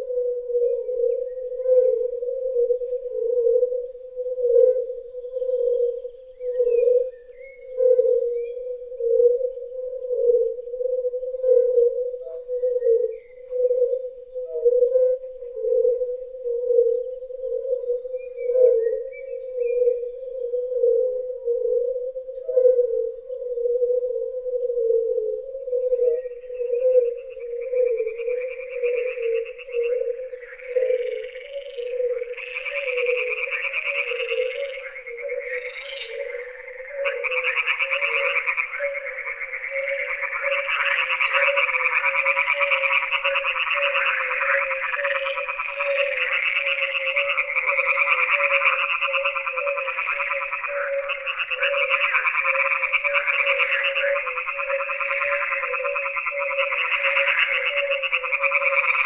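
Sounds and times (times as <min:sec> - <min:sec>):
frogs croaking: 0:00.0 - 0:59.0.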